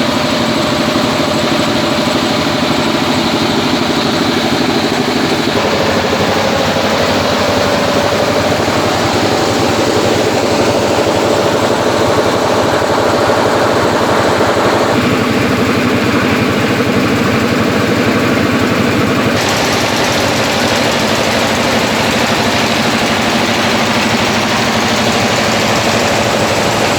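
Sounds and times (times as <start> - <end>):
milling machine drone: 0.0 - 26.9.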